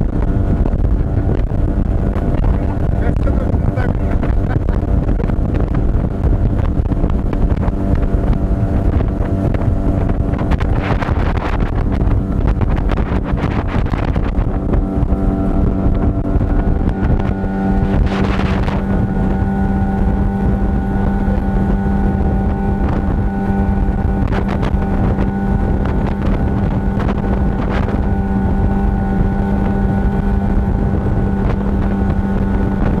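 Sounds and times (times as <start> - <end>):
outboard motor driving boat: 0.0 - 33.0
wind on microphone: 0.0 - 33.0.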